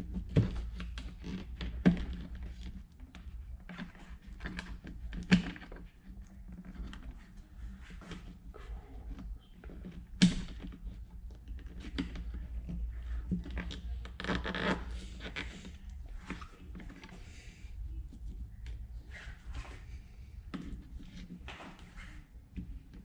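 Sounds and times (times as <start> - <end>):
cables and plastic scraping: 0.0 - 23.0.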